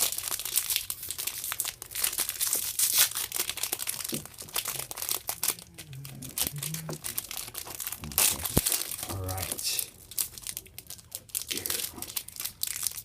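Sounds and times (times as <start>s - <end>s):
foil wrapper tearing and crinkling: 0.0s - 13.0s.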